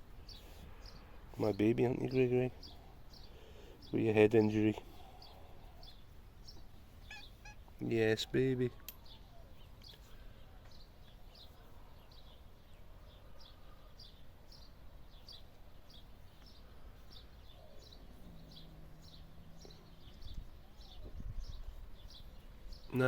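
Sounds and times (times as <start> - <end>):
bird chirping: 0.0 - 23.0
faint low hum: 0.0 - 23.0.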